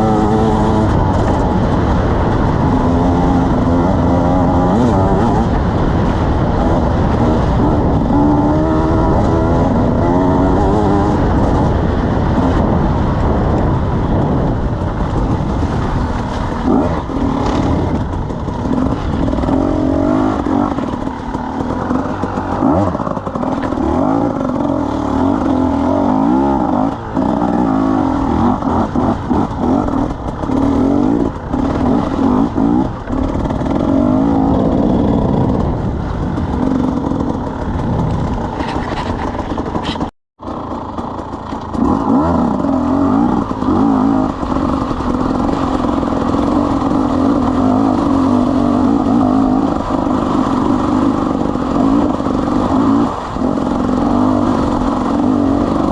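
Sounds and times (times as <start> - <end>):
two-stroke motorcycle engine revving: 0.0 - 55.9.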